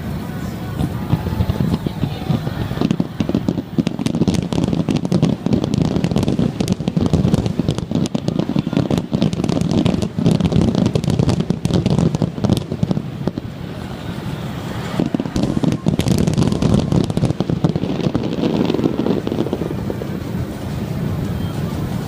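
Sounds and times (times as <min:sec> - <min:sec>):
booming fireworks bursts: 0:00.0 - 0:22.0
fireworks crackling: 0:00.0 - 0:22.0.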